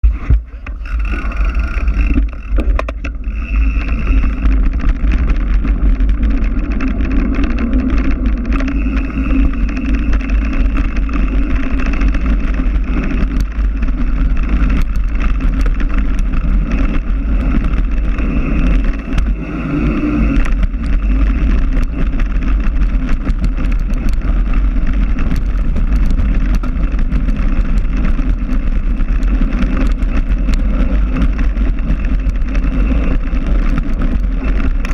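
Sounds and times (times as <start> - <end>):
bike clicks and rattles: 0.0 - 34.9
wind buffeting microphone: 0.0 - 34.9.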